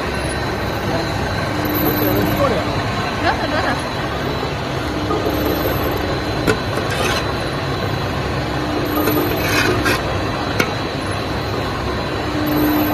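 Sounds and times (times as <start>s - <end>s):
faint hum: 0.0s - 12.9s
steady rushing mechanical noise: 0.0s - 12.9s.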